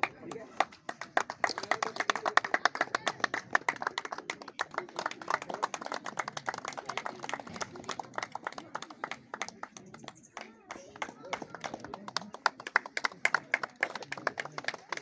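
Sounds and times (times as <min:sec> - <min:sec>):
crowd clapping: 0:00.0 - 0:15.0
murmur of voices: 0:00.0 - 0:15.0.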